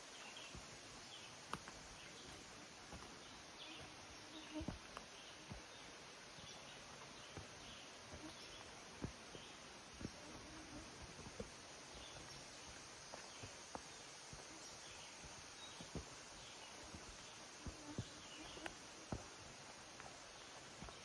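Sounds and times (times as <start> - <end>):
footsteps on dirt trail: 0.0 - 21.0
insects chirping: 0.0 - 21.0
quiet forest ambience: 0.0 - 21.0.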